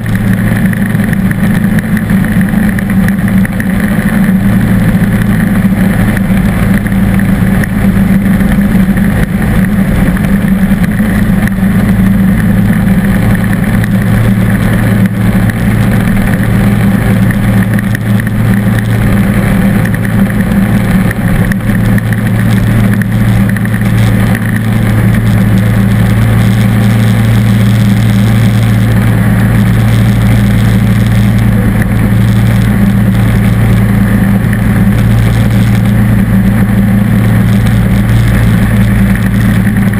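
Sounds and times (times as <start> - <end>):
lawn tractor engine droning: 0.0 - 39.9.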